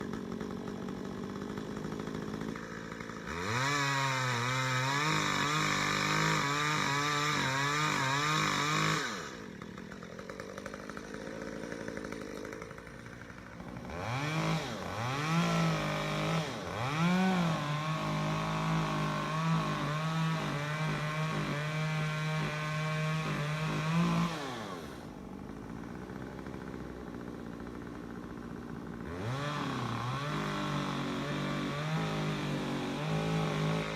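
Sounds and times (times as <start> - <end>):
chainsaw revving and idling: 0.0 - 33.9.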